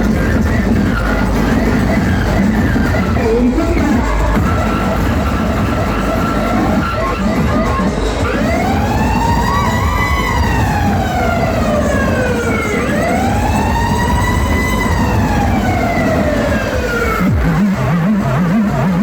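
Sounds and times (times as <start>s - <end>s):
heavy low rumble: 0.0s - 19.0s
siren wailing: 0.0s - 19.0s.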